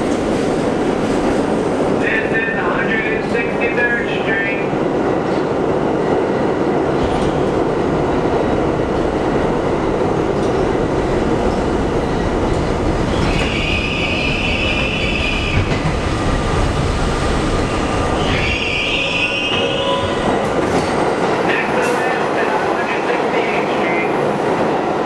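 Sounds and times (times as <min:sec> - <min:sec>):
subway wheels rumbling on rail: 0:00.0 - 0:25.0.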